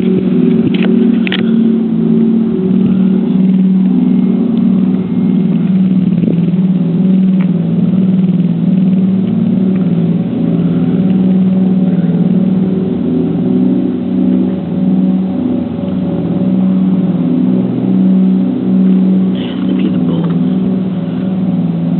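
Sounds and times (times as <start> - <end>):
loud wobbling low drone: 0.0 - 21.9.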